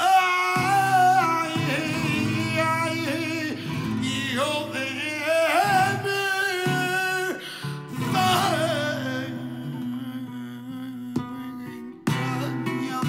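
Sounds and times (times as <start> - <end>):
flamenco guitar chords: 0.0 - 13.0
man singing flamenco: 0.0 - 13.0.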